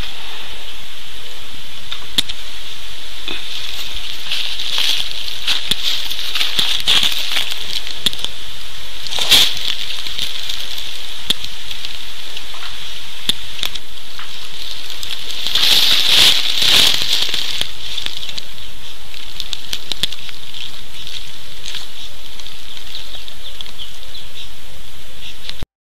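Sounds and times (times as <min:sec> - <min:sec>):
steady high hiss: 0:00.0 - 0:25.6
dry leaves crackling and rustling: 0:01.7 - 0:25.5.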